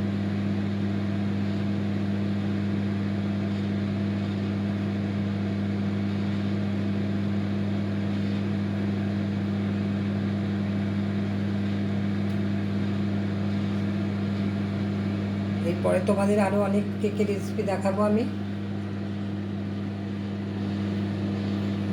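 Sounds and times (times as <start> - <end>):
microwave oven humming: 0.0 - 21.9.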